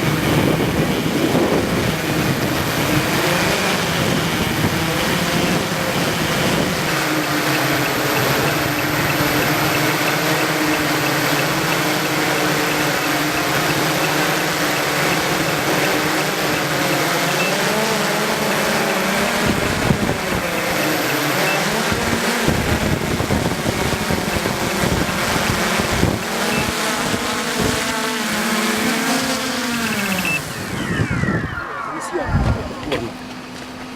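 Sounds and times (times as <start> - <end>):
drone motors and propellers: 0.0 - 33.9.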